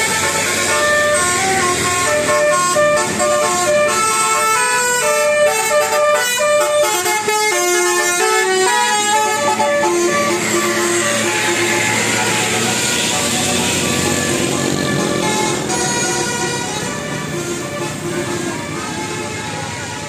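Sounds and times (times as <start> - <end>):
horn-like tune: 0.0 - 20.0.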